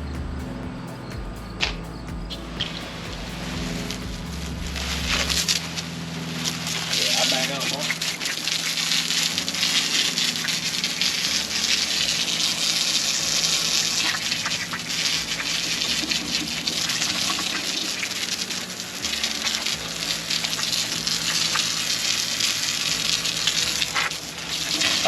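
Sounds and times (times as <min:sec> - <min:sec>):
low hum: 0:00.0 - 0:25.0
liquid spraying on metal: 0:02.5 - 0:25.0.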